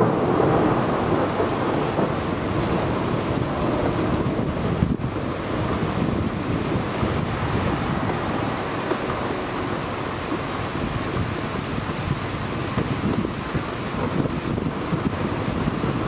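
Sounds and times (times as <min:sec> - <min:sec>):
low thunder rumble: 0:00.0 - 0:16.0
steady rain: 0:00.0 - 0:16.0.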